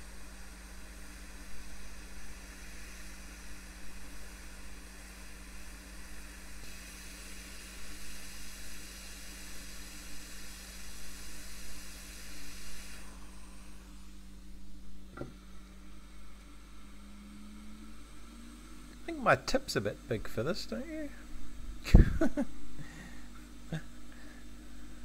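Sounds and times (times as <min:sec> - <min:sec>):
hot air station hissing: 0:00.0 - 0:25.0.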